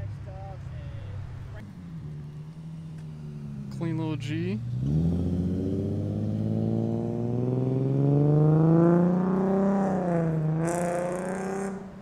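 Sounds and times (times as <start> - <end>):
car engine accelerating: 1.2 - 12.0.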